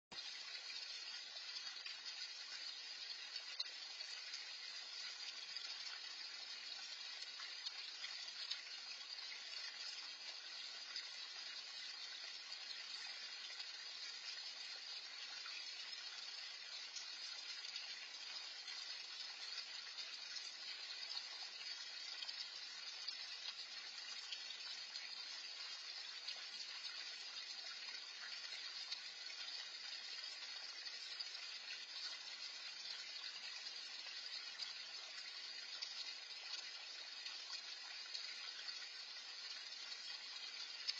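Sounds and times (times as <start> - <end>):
pond fountain splashing: 0.0 - 40.9.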